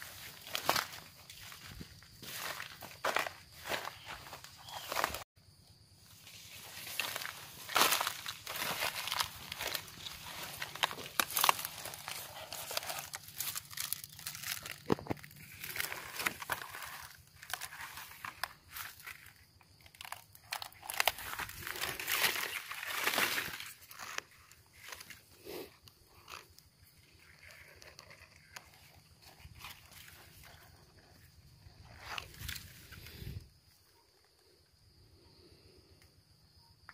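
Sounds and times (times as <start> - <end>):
dry leaves crunching underfoot: 0.0 - 5.2, 6.0 - 33.4
footsteps in grass and leaves: 0.0 - 5.3, 5.9 - 33.4.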